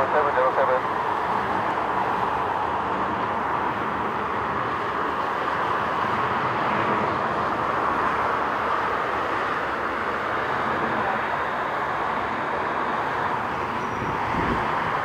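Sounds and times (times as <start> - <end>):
jet engine noise: 0.0 - 15.0.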